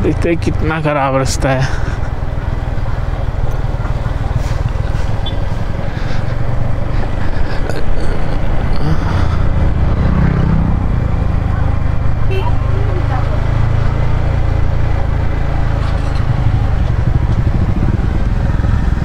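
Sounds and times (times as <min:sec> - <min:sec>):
motorcycle engine running low: 0:00.0 - 0:07.2, 0:09.4 - 0:19.0.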